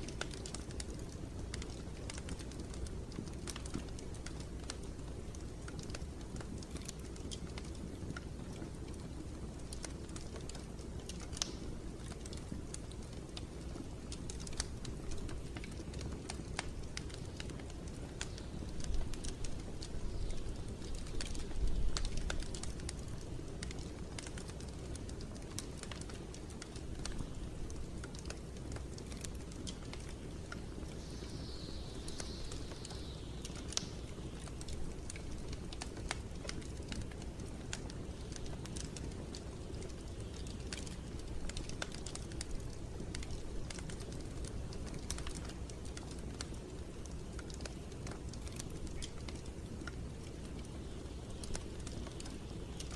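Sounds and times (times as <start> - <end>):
fire crackling and popping: 0.0 - 52.9
rumble of fire flames: 0.0 - 52.9
soft hiss: 0.0 - 52.9.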